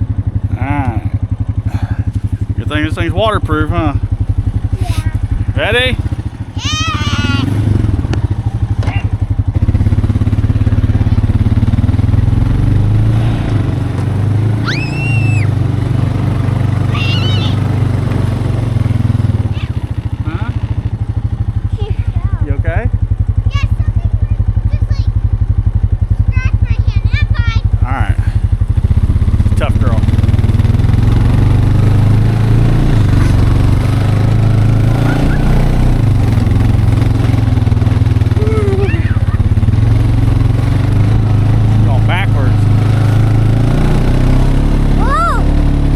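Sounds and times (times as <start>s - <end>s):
four-wheeler engine running: 0.0s - 45.9s.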